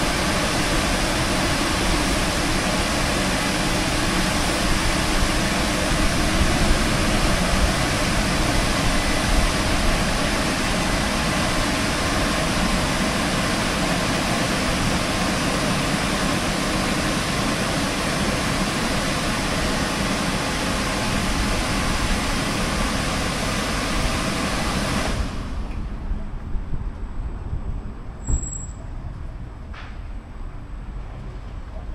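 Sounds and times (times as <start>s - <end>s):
car wash machine rushing: 0.0s - 25.8s.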